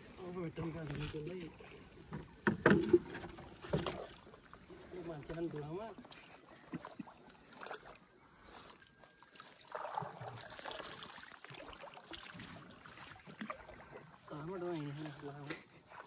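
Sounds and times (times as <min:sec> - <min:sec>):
water lapping around boat: 0:00.0 - 0:16.0.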